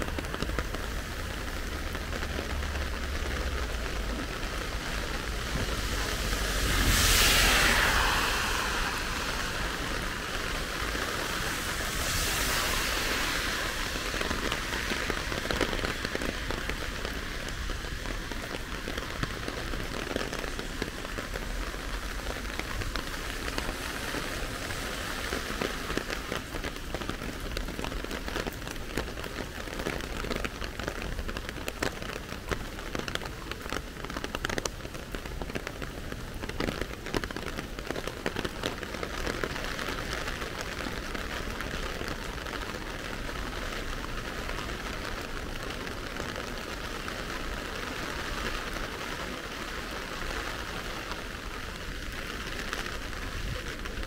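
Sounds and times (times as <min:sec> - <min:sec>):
heavy rain on hard surfaces: 0:00.0 - 0:54.0.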